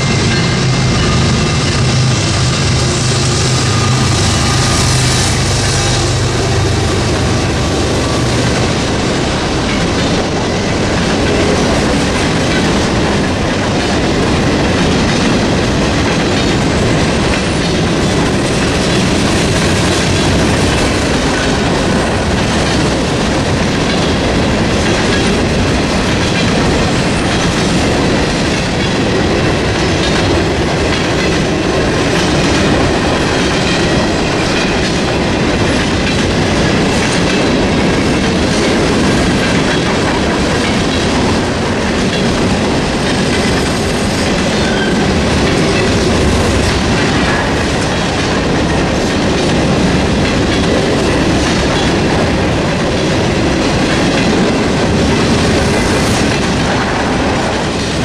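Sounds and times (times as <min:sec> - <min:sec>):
crossing bell ringing: 0:00.0 - 0:14.0, 0:16.2 - 0:52.5
train wheels clattering over rails: 0:00.0 - 0:58.0.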